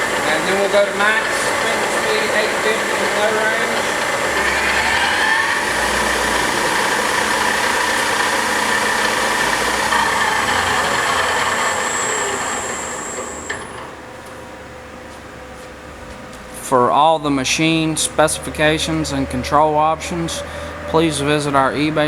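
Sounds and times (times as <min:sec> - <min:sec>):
lathe spindle whine: 0:00.0 - 0:15.0, 0:16.7 - 0:22.0.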